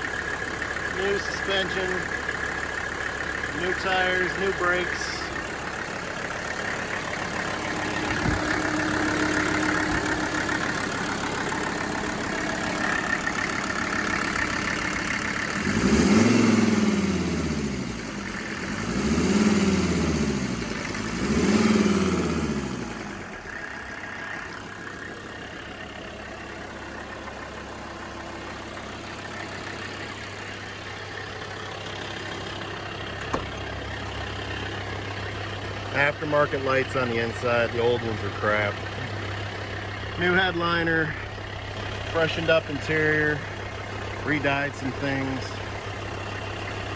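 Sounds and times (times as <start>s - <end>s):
diesel engine idling and revving: 0.0s - 46.9s.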